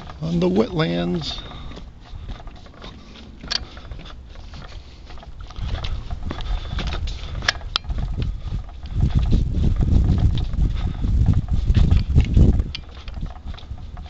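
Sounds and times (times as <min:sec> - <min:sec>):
footsteps while walking: 0:00.0 - 0:14.0
low rumble of wind: 0:00.0 - 0:14.0.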